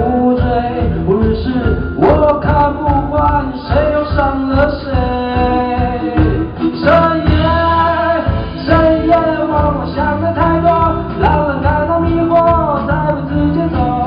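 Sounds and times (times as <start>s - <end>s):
guitar-led band playing: 0.0s - 14.0s
man singing: 0.0s - 14.0s.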